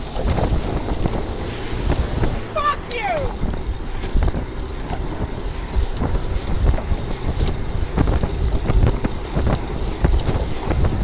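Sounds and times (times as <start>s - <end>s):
knocks and rattles of bike: 0.0s - 11.0s
wind buffeting microphone: 0.0s - 11.0s.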